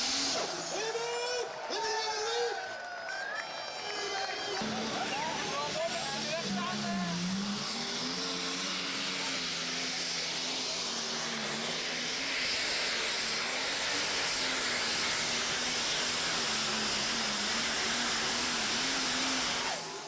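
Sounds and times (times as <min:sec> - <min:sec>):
loud engine running: 0:00.0 - 0:20.0.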